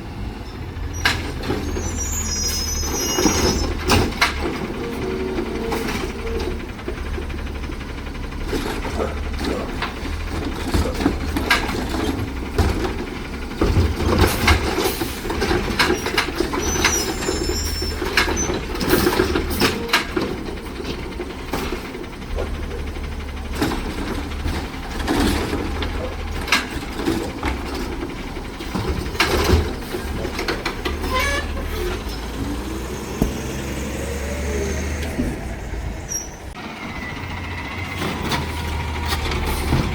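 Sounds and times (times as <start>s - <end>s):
garbage truck engine rumble: 0.0s - 39.9s
truck clanks and bangs: 0.0s - 39.9s.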